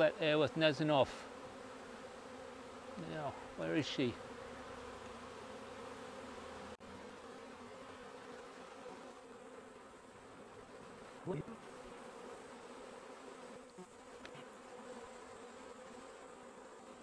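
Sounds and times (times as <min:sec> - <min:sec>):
bee swarm humming: 0:00.0 - 0:17.0.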